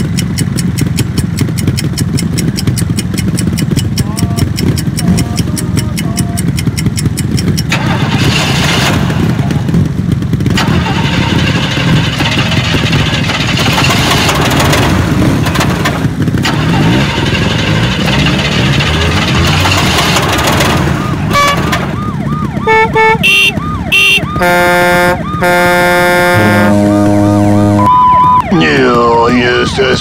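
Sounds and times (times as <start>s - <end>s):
motorcycle engines with throttle blips: 0.0s - 30.0s.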